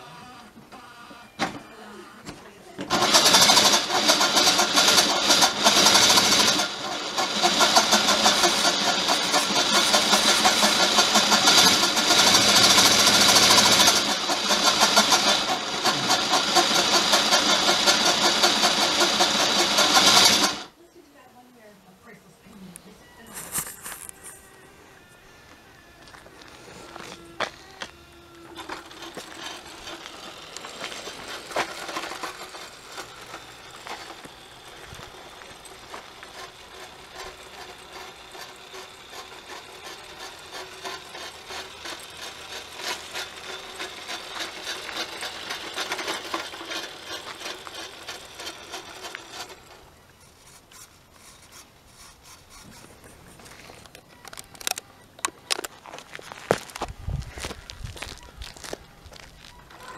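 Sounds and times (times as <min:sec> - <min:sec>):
model car motor grinding: 0:00.0 - 0:02.2, 0:02.8 - 0:20.7, 0:23.4 - 0:54.9.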